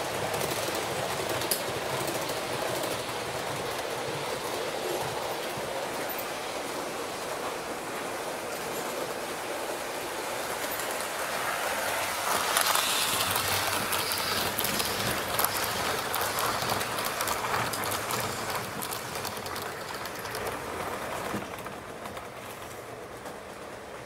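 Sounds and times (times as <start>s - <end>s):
train wheels rattling on rail: 0.0s - 24.0s.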